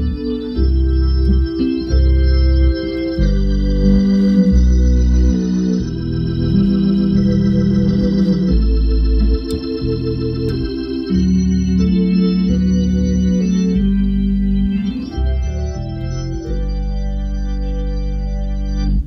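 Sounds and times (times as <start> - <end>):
organ playing hymn chords: 0.0 - 19.0.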